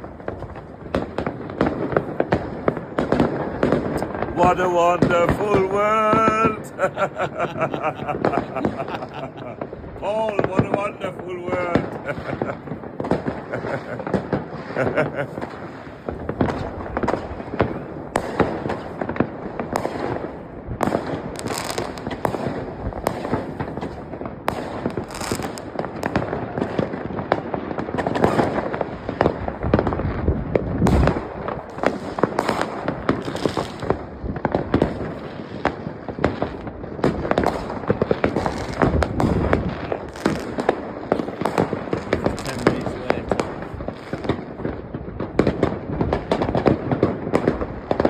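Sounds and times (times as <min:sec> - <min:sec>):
fireworks and firecrackers banging: 0:00.0 - 0:48.0.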